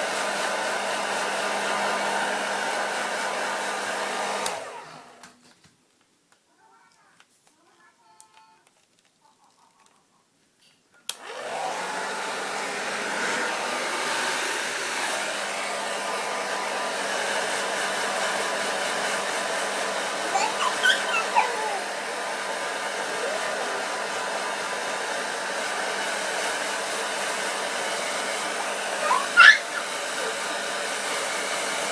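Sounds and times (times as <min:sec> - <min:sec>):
hair dryer blowing: 0:00.0 - 0:05.3, 0:11.1 - 0:31.9.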